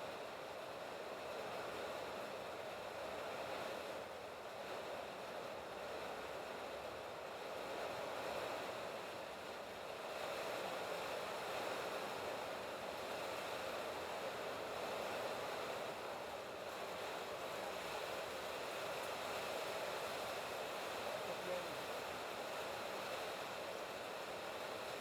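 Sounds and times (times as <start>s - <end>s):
rain on a metal roof: 0.1s - 25.0s.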